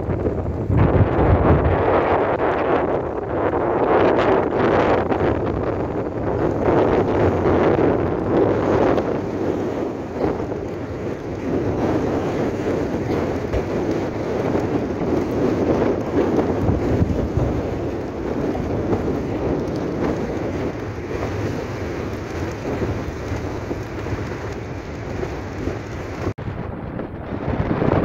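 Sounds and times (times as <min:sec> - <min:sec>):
storm wind buffeting microphone: 0:00.0 - 0:28.0.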